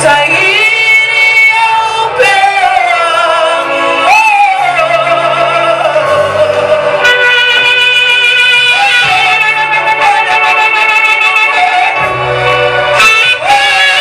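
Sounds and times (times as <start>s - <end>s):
instrumental backing with bass: 0.0s - 14.0s
person singing gospel song: 0.0s - 14.0s.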